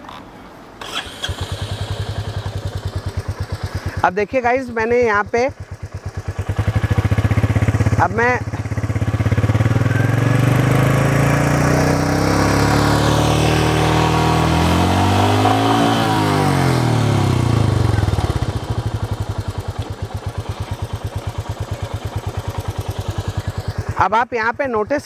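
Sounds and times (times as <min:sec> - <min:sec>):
motorcycle engine revving and idling: 0:00.8 - 0:25.0.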